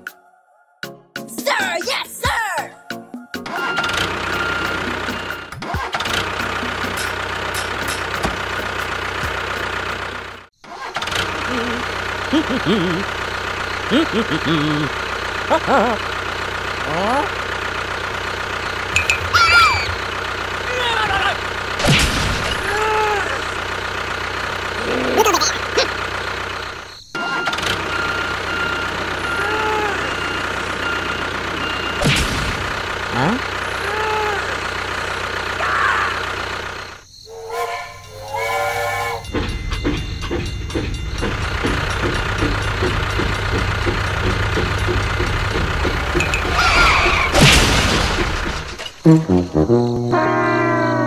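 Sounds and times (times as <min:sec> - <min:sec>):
tractor engine running: 0:03.4 - 0:38.5, 0:39.1 - 0:51.0.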